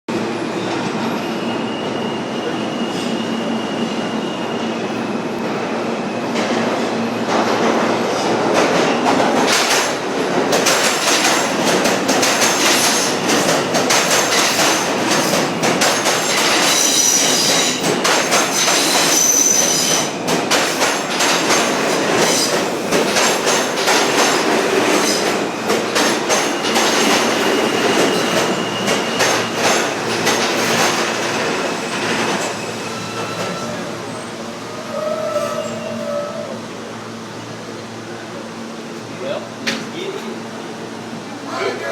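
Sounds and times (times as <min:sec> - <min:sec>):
subway train hum: 0:00.1 - 0:41.9.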